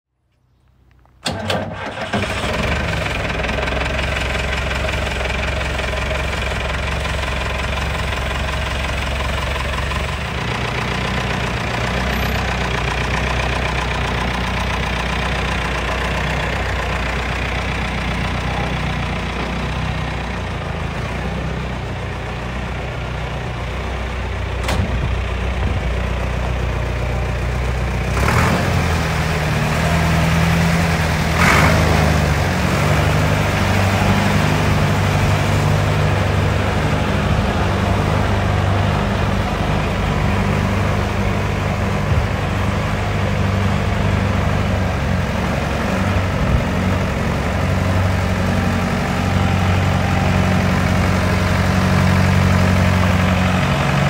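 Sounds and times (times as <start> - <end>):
tractor diesel engine running: 0.7 - 54.0.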